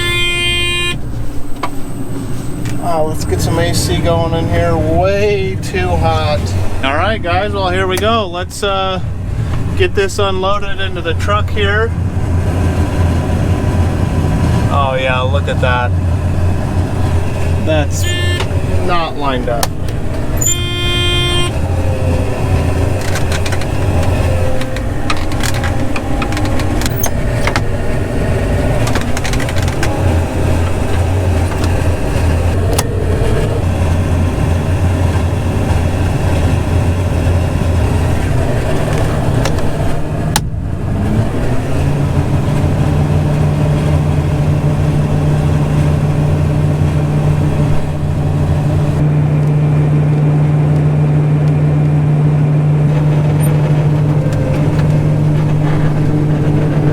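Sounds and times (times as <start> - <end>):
diesel engine drone inside cab: 0.0 - 56.9.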